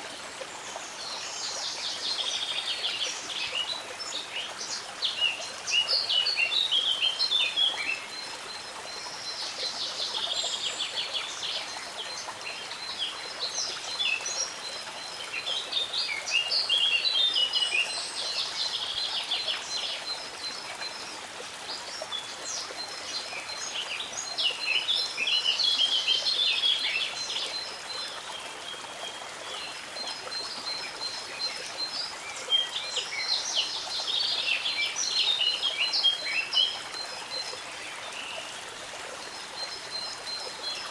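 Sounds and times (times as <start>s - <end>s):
songbirds singing: 0.6s - 40.9s.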